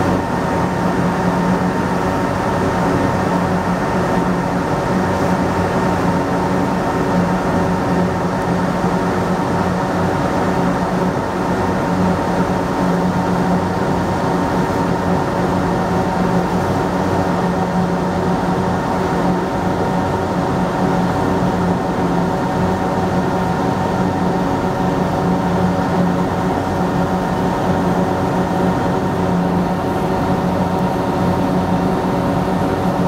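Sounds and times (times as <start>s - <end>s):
engine droning with whine: 0.0s - 33.0s.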